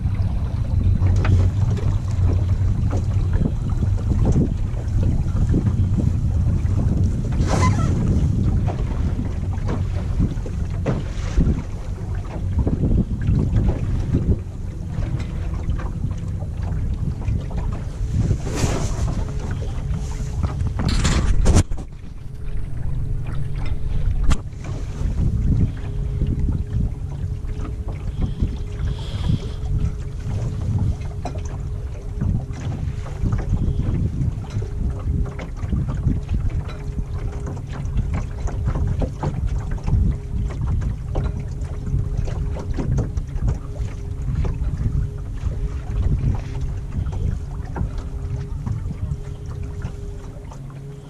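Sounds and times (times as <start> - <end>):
electric outboard whine: 0.0 - 51.0
water splashing against hull: 0.0 - 51.0
wind buffeting microphone: 0.0 - 51.0
knock against boat: 0.7 - 31.6, 32.2 - 50.9.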